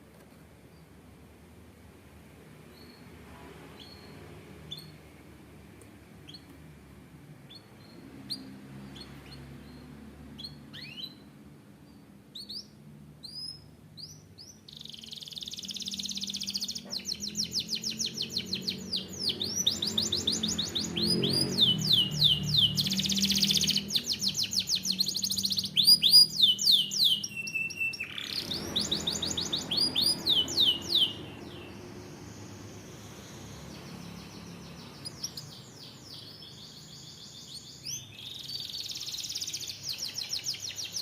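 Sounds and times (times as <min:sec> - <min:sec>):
canary singing: 0:02.7 - 0:03.2, 0:03.8 - 0:05.2, 0:06.2 - 0:06.7, 0:07.4 - 0:41.0.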